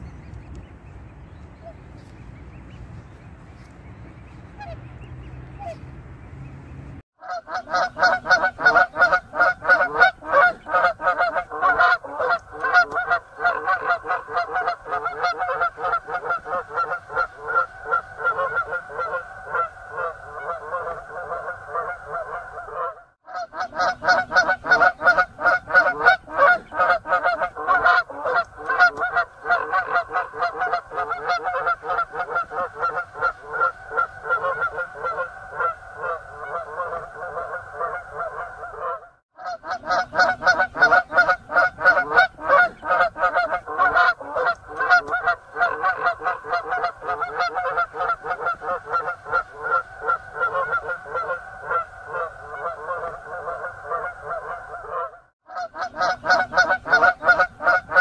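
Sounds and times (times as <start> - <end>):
geese honking: 1.5 - 58.0.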